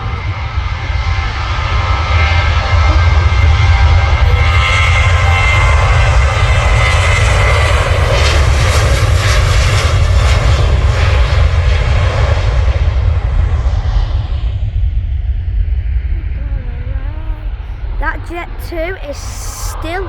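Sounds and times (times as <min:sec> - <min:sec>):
jet airliner passing: 0:00.0 - 0:16.3.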